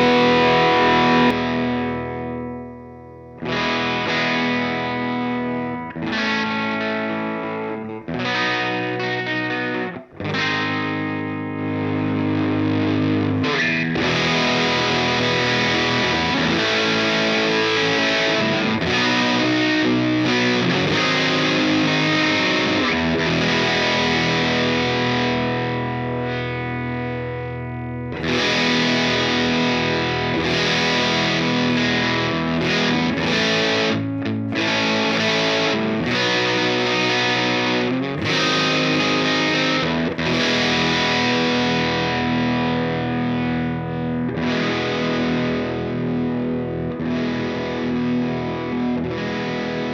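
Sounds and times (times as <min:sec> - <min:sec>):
distorted electric guitar chords: 0:00.0 - 0:49.9.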